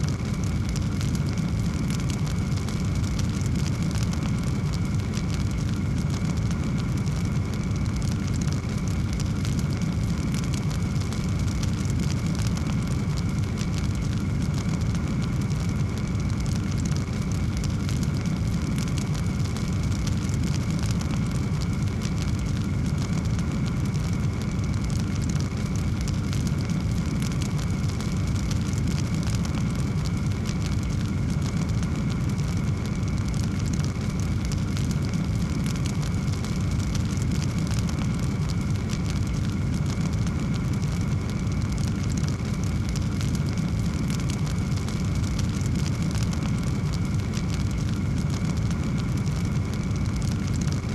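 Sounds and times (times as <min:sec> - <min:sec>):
fire low rumble: 0:00.0 - 0:50.9
wood fire crackling: 0:00.0 - 0:50.9.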